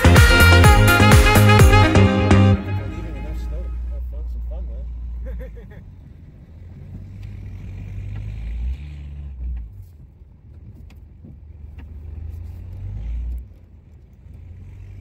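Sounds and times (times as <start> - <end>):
truck engine under load: 2.6 - 15.0.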